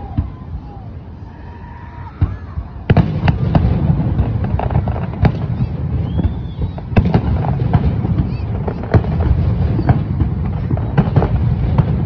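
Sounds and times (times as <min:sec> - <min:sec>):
fireworks booming and crackling: 0:00.0 - 0:01.0, 0:02.0 - 0:12.0.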